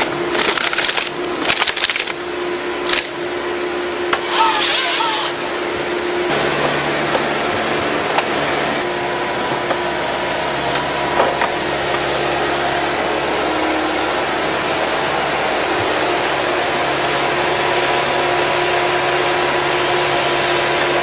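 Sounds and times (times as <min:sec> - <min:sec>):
harvester machine running: 0:00.0 - 0:21.0.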